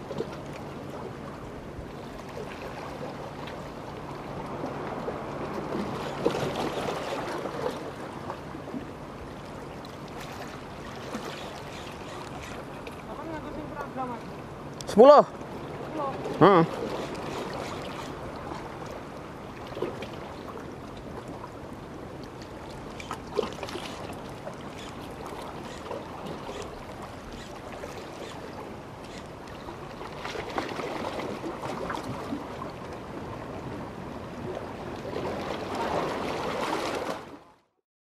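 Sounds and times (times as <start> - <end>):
sea water at shore: 0.0 - 37.8.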